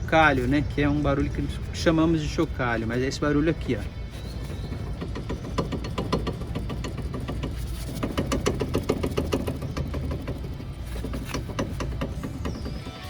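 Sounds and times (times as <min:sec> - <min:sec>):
brake caliper metallic knocking: 0:00.1 - 0:13.0.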